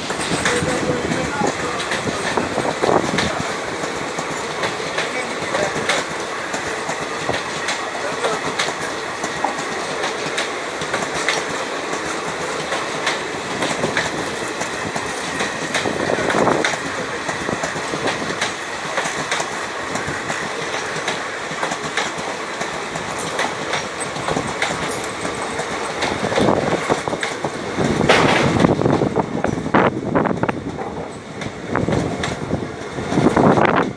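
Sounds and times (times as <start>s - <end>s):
train wheels clattering over rail joints: 0.0s - 33.9s.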